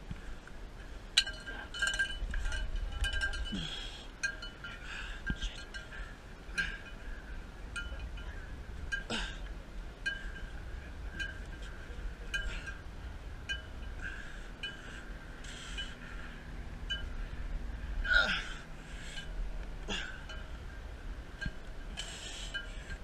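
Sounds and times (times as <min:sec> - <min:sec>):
wind rumble: 0:00.0 - 0:23.0
light metallic clinks: 0:00.8 - 0:12.9, 0:13.5 - 0:17.3, 0:18.0 - 0:20.8, 0:21.4 - 0:23.0.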